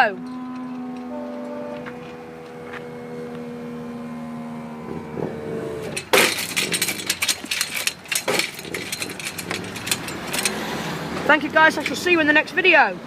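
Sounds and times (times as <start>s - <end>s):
diesel train drone: 0.0s - 13.0s.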